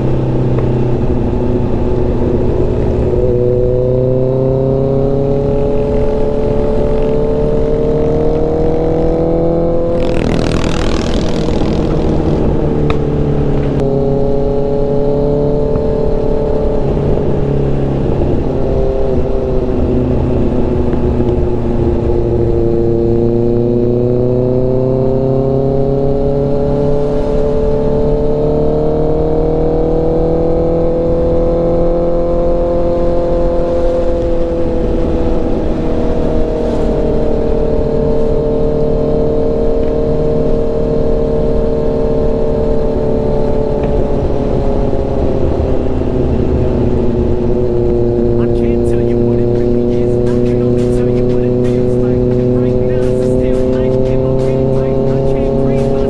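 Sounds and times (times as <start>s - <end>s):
low wind rumble: 0.0s - 56.0s
motorcycle engine running: 0.0s - 56.0s.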